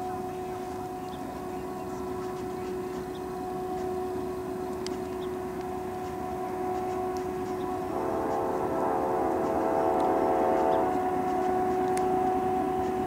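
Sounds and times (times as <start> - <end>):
freight train rumble: 0.0 - 13.0
high whine: 0.0 - 13.0.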